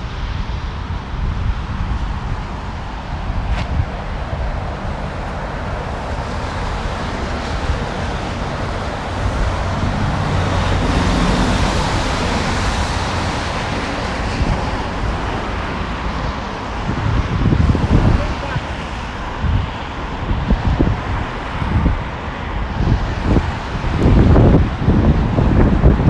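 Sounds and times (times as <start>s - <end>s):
traffic hissing on wet pavement: 0.0s - 26.0s
wind buffeting microphone: 0.0s - 26.0s.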